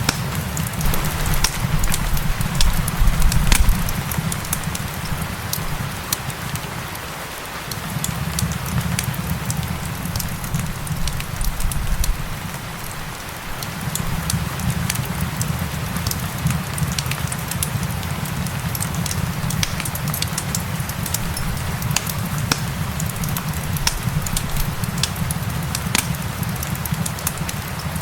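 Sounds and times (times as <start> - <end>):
rain hiss: 0.0 - 28.0
wood fire crackling: 0.0 - 28.0.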